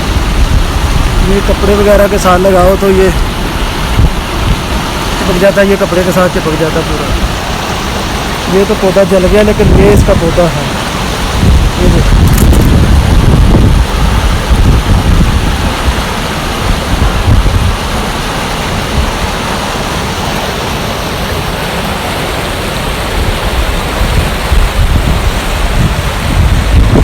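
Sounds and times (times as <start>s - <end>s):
wind buffeting microphone: 0.0s - 5.5s, 6.3s - 20.3s, 22.8s - 27.0s
stream rushing: 0.0s - 27.0s.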